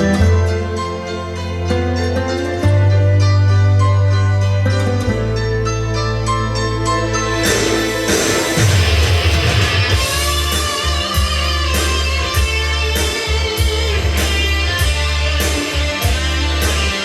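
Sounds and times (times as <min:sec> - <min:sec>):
guitar music over loudspeakers: 0:00.0 - 0:17.0.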